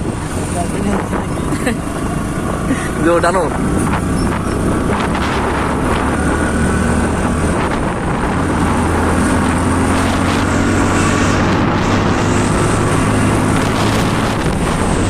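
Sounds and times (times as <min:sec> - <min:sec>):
wind on microphone: 0:00.0 - 0:02.7, 0:03.4 - 0:15.0.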